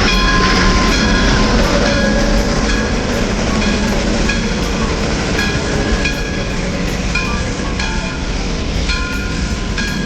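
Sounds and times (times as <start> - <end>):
high-pitched ringing tones: 0.0 - 10.0
train rumble: 0.0 - 10.0.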